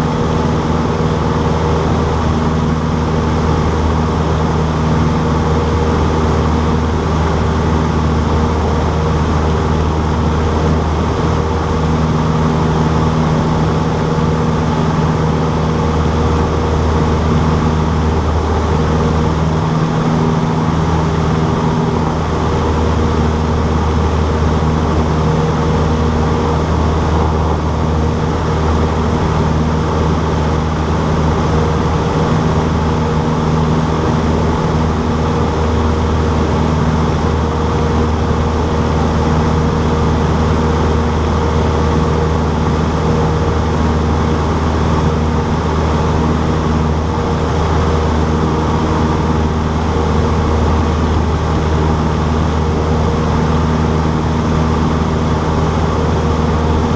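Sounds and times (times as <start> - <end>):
aircraft engine and propeller drone: 0.0 - 56.9.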